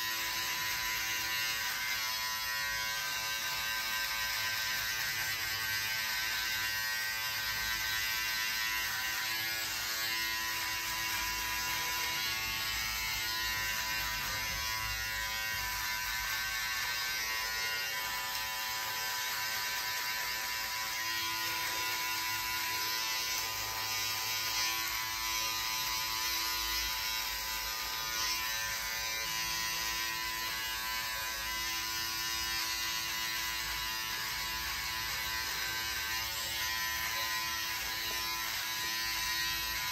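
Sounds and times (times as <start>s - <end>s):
electric beard trimmer buzzing: 0.0s - 39.9s.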